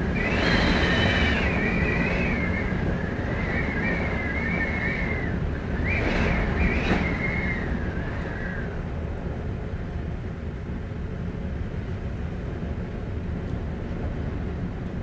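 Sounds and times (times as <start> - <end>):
heavy wind rumbling: 0.0 - 15.0
high whistling wind howl: 0.0 - 15.0.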